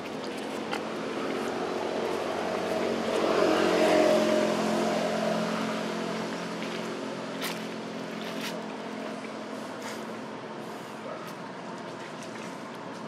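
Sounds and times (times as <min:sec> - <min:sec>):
engine passing by: 0:00.0 - 0:11.0.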